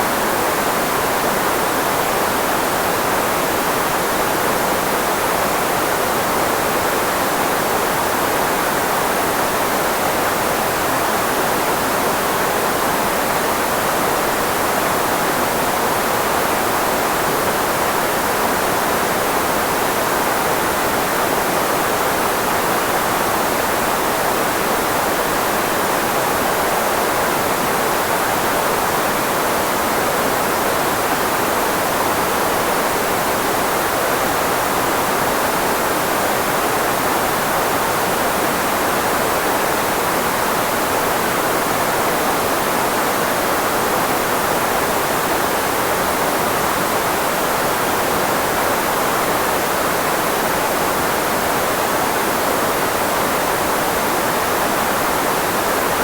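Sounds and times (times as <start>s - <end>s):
filtered white noise: 0.0s - 56.0s.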